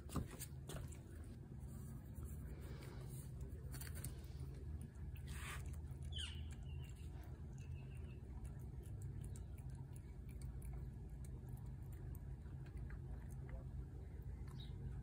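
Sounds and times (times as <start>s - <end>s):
steady low hum: 0.0s - 15.0s
cat chewing and licking: 0.5s - 15.0s.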